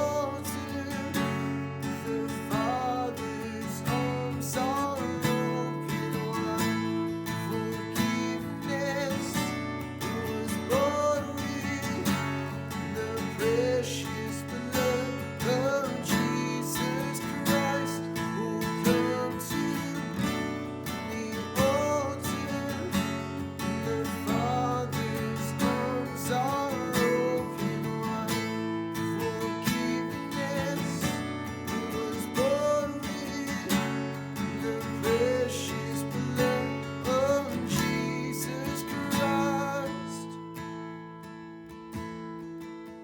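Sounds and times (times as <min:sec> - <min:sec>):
strummed acoustic guitar: 0:00.0 - 0:43.0.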